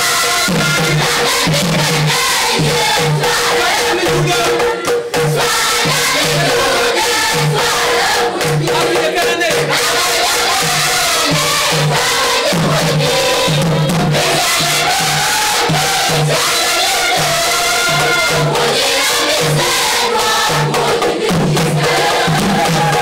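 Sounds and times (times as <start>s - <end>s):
drum beating: 0.0s - 23.0s
women's choir singing in unison: 0.0s - 23.0s.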